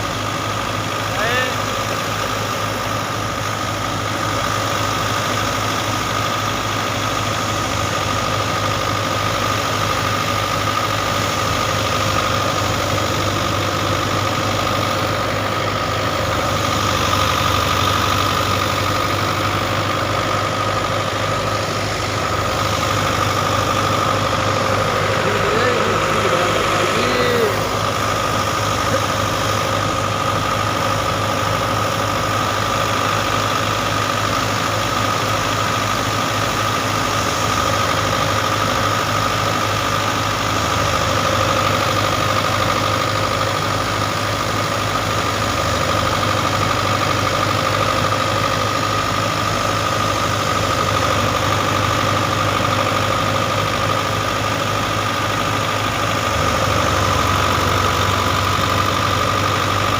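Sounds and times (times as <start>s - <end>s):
farm machine engine running: 0.0s - 59.9s.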